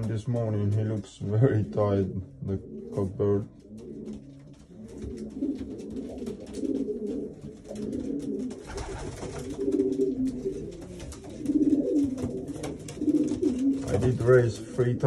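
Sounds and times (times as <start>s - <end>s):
pigeons cooing: 1.3s - 15.0s.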